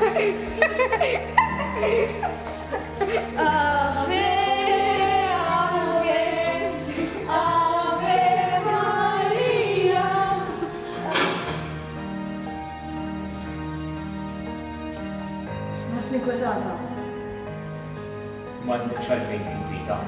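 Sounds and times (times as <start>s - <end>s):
musical accompaniment: 0.0s - 20.0s.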